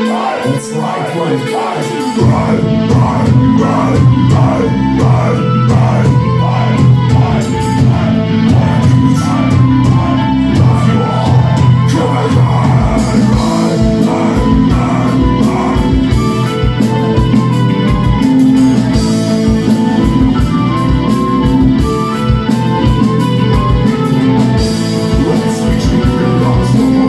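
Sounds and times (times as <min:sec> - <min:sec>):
bass guitar: 0:00.0 - 0:27.0
electric guitars: 0:00.0 - 0:27.0
flute melody: 0:00.0 - 0:27.0
fast drum kit: 0:01.3 - 0:27.0.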